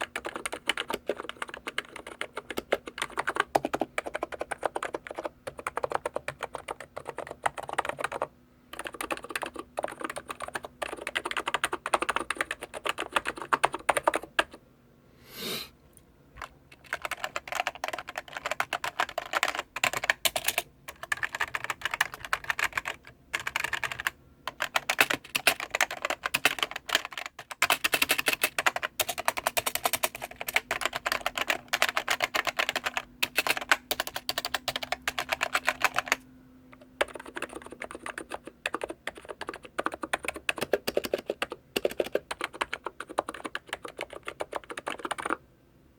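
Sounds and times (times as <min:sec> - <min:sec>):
fast typing on keyboard: 0:00.0 - 0:14.6, 0:16.4 - 0:36.2, 0:36.8 - 0:45.4.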